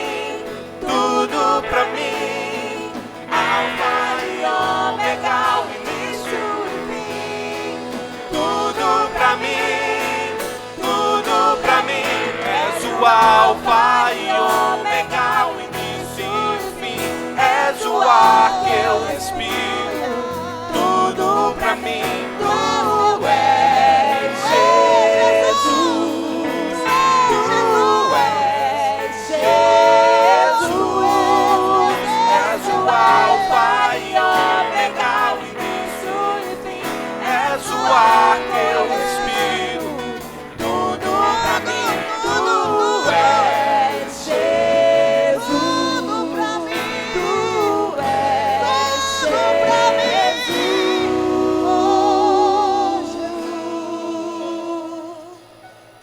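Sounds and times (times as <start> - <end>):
instrumental backing: 0.0 - 54.8
voices singing gospel: 0.0 - 56.0.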